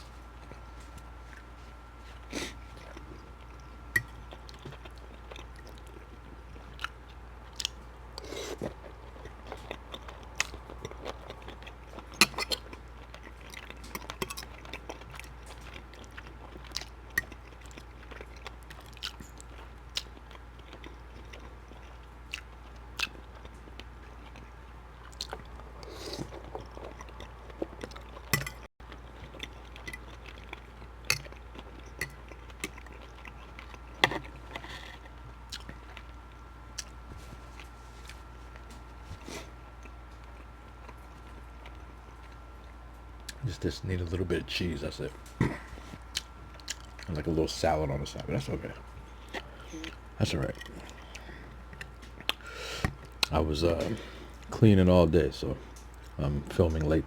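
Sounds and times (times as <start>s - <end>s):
person chewing food: 0.0s - 43.4s, 45.2s - 47.2s, 48.2s - 54.5s, 55.6s - 56.9s.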